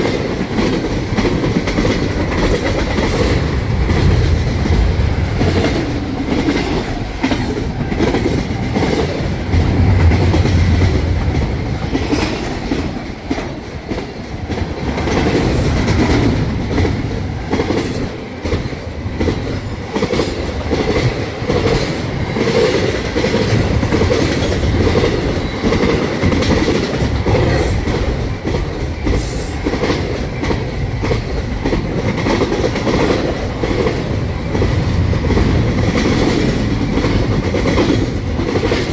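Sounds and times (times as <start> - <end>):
rail rumble: 0.0 - 38.9.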